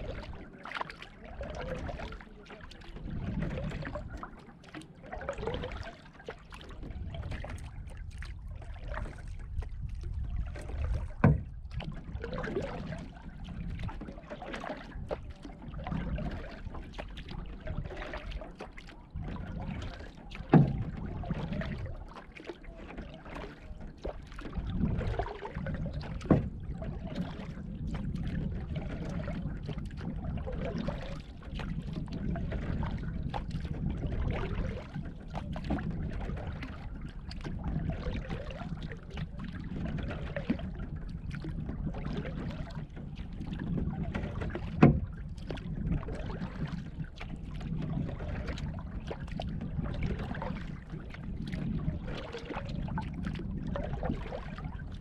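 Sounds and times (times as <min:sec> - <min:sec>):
paddle strokes through water: 0:00.0 - 0:55.0
water washing along hull: 0:00.0 - 0:55.0.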